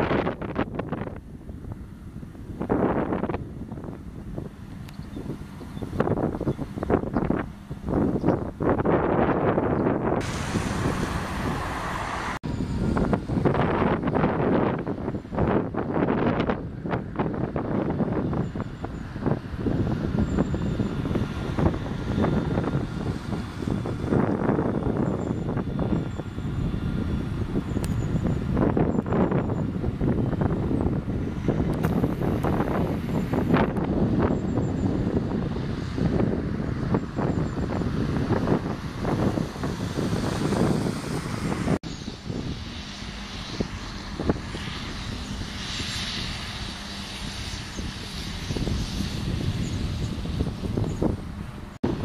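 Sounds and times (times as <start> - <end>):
diesel bus engine hum: 0.0 - 52.0
traffic hiss: 0.0 - 52.0
tram running noise: 0.0 - 52.0
wind buffeting microphone: 0.0 - 52.0.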